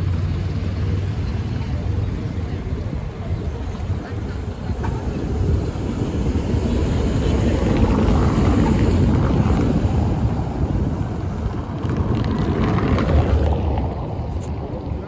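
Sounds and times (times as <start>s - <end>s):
car passing: 0.0s - 15.0s
tram rumbling on track: 0.0s - 15.0s
wind buffeting microphone: 1.7s - 15.0s.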